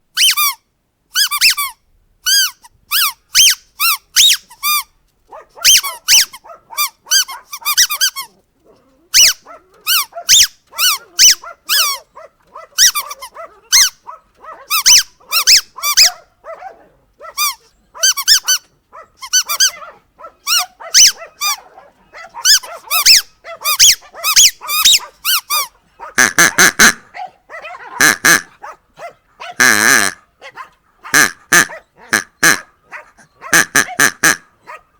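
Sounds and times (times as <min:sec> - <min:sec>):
squeaky dog toy squeaking: 0:00.2 - 0:04.9, 0:05.6 - 0:08.4, 0:09.1 - 0:16.2, 0:17.2 - 0:28.5, 0:31.0 - 0:32.7, 0:33.4 - 0:34.8.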